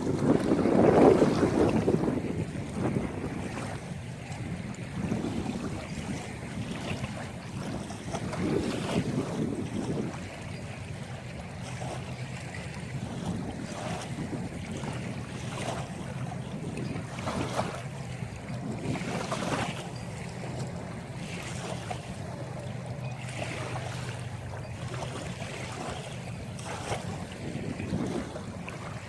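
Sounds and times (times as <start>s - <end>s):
water splashing against hull: 0.0s - 29.0s
wind on microphone: 0.0s - 29.0s.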